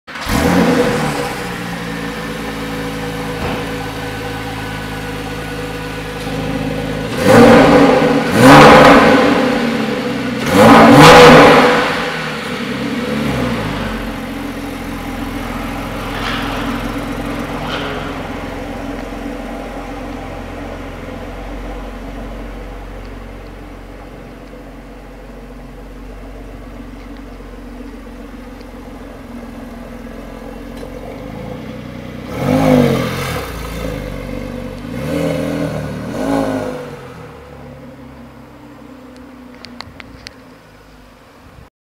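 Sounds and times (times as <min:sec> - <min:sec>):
car engine revving: 0:00.1 - 0:38.0.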